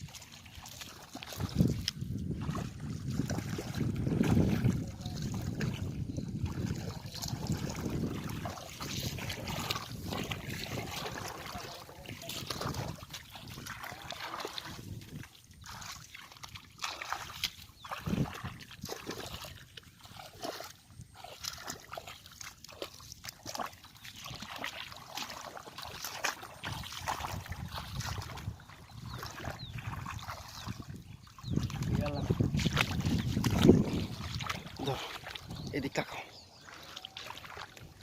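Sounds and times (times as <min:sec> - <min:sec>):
shallow water sloshing and splashing: 0:00.0 - 0:38.0.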